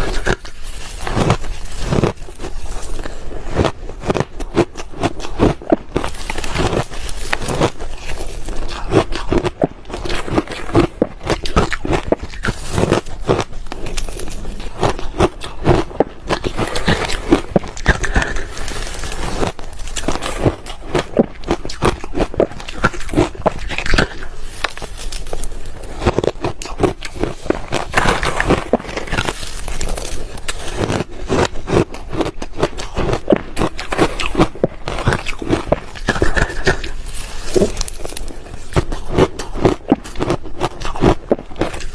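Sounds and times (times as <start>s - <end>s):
ice cubes being chewed: 0.0s - 41.9s.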